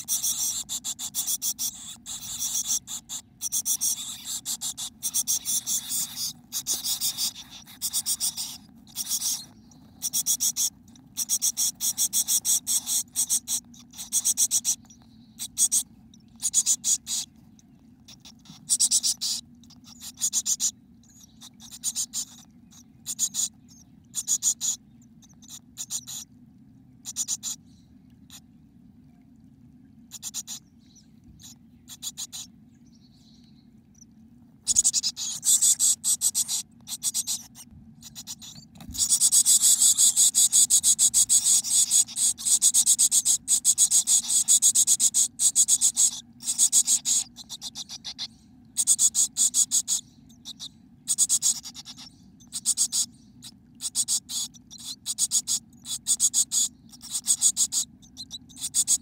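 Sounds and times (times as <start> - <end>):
nestlings begging calls: 0.0 - 26.3, 27.0 - 27.6, 30.1 - 33.6, 34.6 - 59.0.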